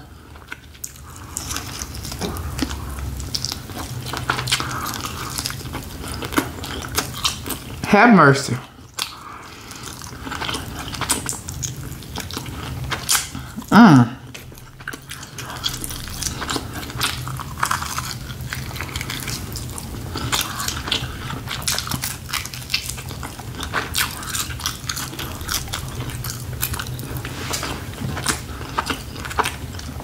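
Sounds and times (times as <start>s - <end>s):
person biting and chewing: 0.0s - 7.8s, 8.7s - 30.0s.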